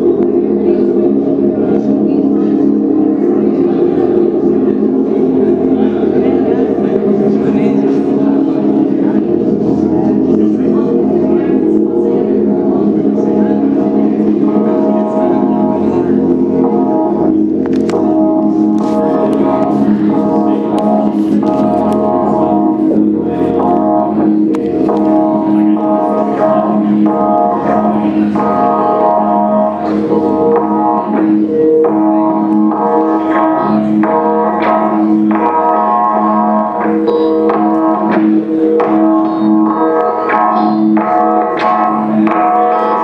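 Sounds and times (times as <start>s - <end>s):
low drone: 0.0s - 43.0s
pulsing chord: 0.0s - 43.0s.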